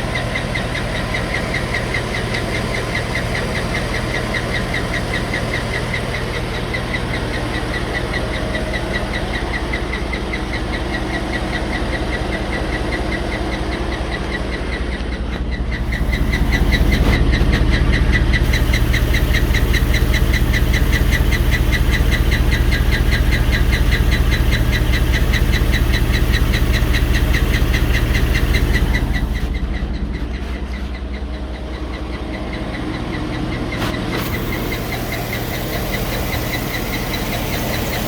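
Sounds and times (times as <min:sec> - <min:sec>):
car engine idling with ticking: 0:00.0 - 0:38.0.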